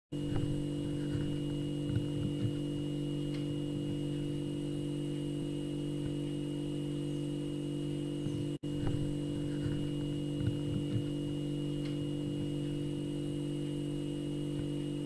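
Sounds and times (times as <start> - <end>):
refrigerator humming: 0.1 - 15.0.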